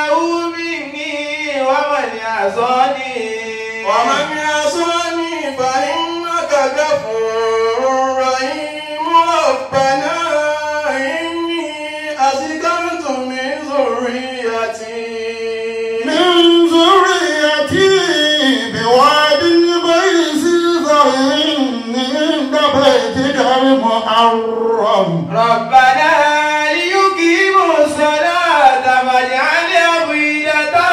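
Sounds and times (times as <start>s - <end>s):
man chanting melodic recitation: 0.0s - 30.9s.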